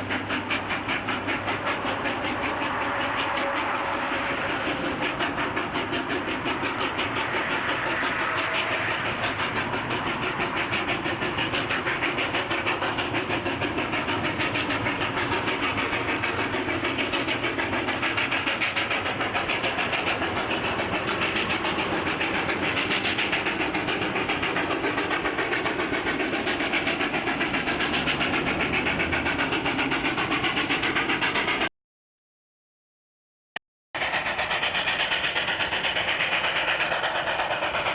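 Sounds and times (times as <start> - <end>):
steam locomotive exhaust beats: 0.0 - 31.7, 34.0 - 37.9
train running noise: 0.0 - 31.7, 34.0 - 37.9.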